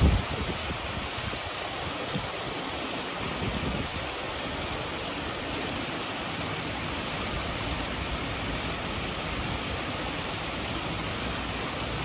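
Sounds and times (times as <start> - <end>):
waterfall spilling into pond: 0.0 - 12.0.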